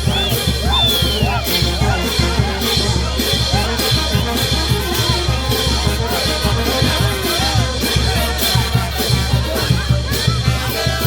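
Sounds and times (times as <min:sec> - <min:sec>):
band playing music: 0:00.0 - 0:11.0
drum kit beat: 0:00.0 - 0:11.0.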